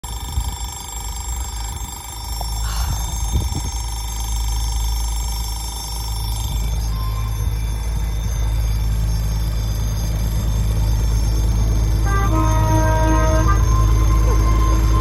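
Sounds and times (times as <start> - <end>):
level crossing alarm trilling: 0.0 - 15.0.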